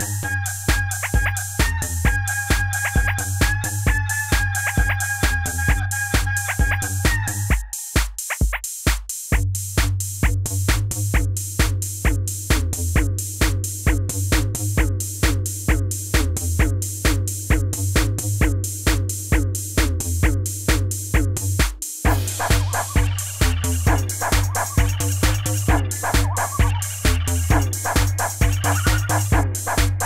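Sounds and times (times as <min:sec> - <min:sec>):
electronic music with drum-machine beat: 0:00.0 - 0:30.0.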